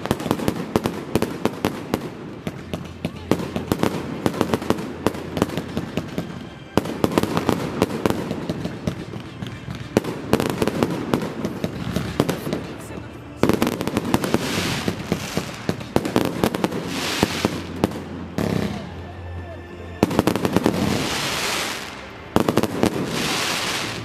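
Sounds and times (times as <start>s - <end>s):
fireworks bangs: 0.0s - 19.0s, 20.0s - 24.0s
fireworks crackling: 0.0s - 24.0s.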